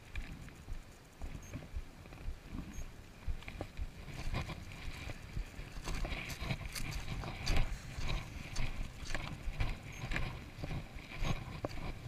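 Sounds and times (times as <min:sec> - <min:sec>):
footsteps crunching on gravel: 0:00.1 - 0:12.0.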